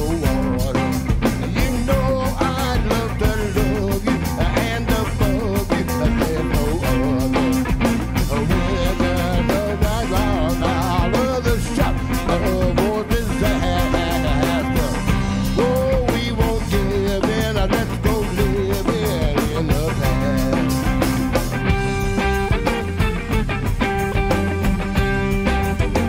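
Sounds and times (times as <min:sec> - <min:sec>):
bass guitar: 0:00.0 - 0:26.0
drum beat: 0:00.0 - 0:26.0
electric guitar lead: 0:00.0 - 0:26.0.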